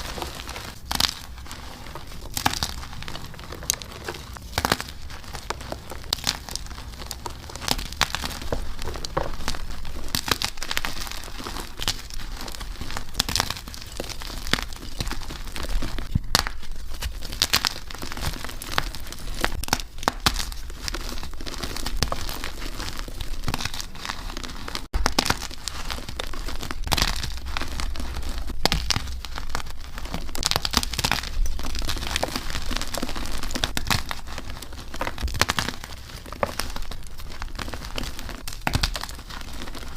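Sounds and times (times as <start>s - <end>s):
chalk crumbling and crackling: 0.0s - 39.9s.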